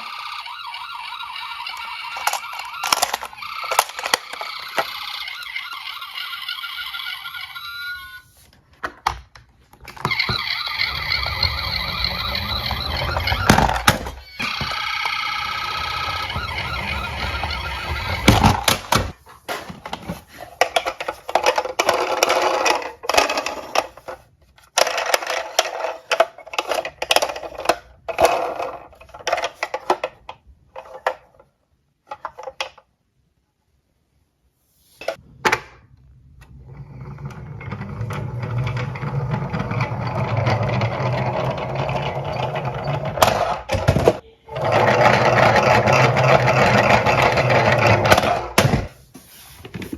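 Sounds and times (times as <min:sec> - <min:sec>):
toy cars clattering and rolling: 0:00.0 - 0:32.9, 0:36.4 - 0:49.0.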